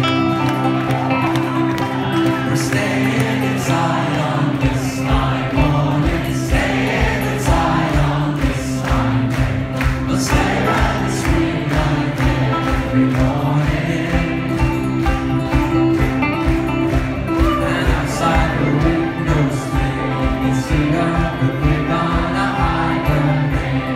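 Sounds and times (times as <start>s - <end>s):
acoustic guitars: 0.0s - 23.9s
keyboard: 0.0s - 23.9s
voices singing together: 2.3s - 15.0s, 17.4s - 23.9s
steady drum beat: 3.3s - 23.9s.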